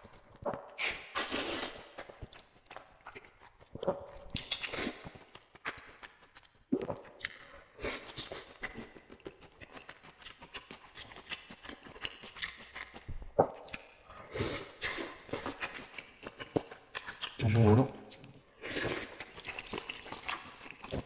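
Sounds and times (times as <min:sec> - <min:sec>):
wet chewing and mouth smacking: 0:00.0 - 0:21.0.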